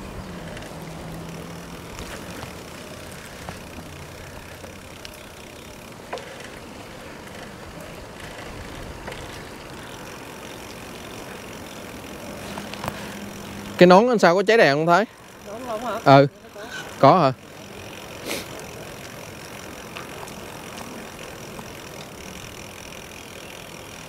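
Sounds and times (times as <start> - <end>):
tyres rolling on pavement: 0.0 - 24.0.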